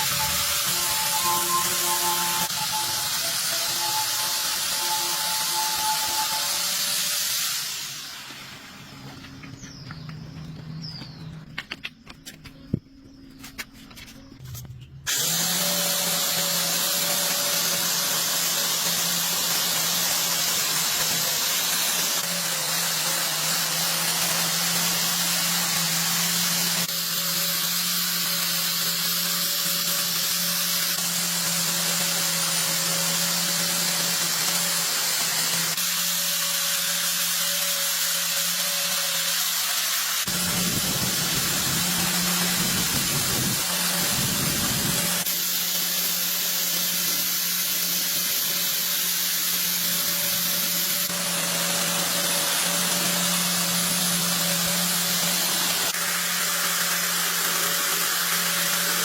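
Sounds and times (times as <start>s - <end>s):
power tool running with hiss: 0.0s - 9.7s, 15.1s - 59.0s.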